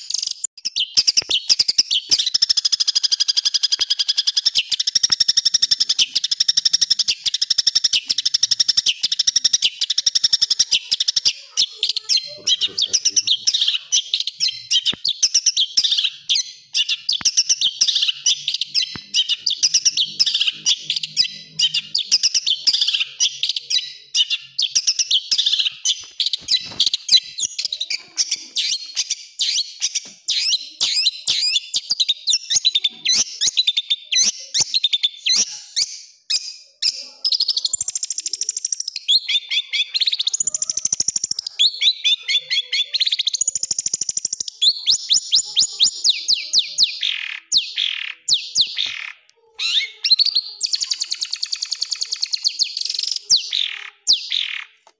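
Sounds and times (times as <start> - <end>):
bird singing warbles and harsh notes: 0.0 - 54.8.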